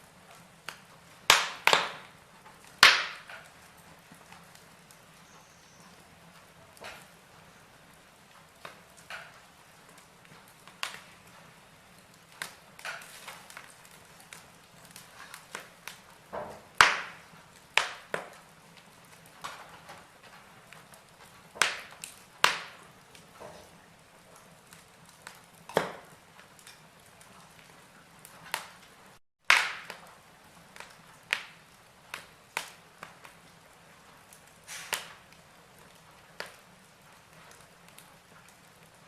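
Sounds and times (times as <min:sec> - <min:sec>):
faint steady hiss: 0:00.0 - 0:39.0
wood fire crackling: 0:00.0 - 0:39.0.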